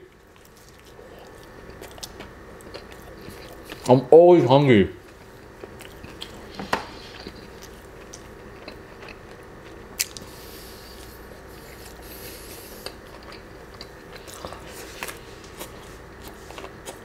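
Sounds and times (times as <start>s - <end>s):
person chewing: 0.0s - 3.9s, 5.0s - 17.0s.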